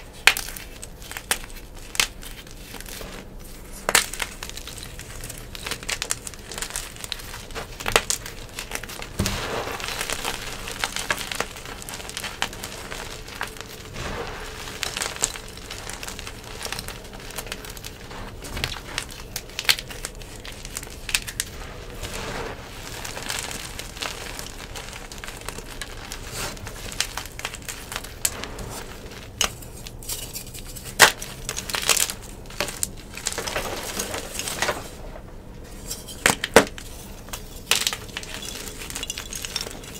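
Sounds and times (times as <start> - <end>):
chalk crunching by hand: 0.1 - 34.9.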